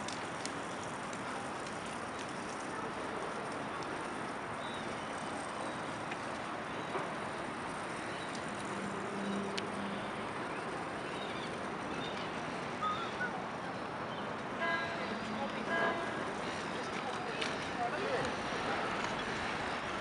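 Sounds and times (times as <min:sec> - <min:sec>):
distant traffic noise: 0:00.0 - 0:20.0.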